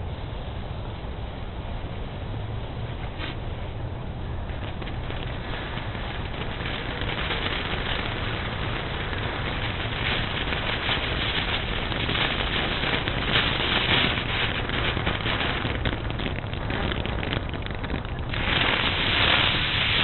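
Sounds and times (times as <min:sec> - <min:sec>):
fireworks hissing and crackling: 0:01.8 - 0:20.0
small firework pops: 0:03.0 - 0:03.5, 0:04.4 - 0:20.0.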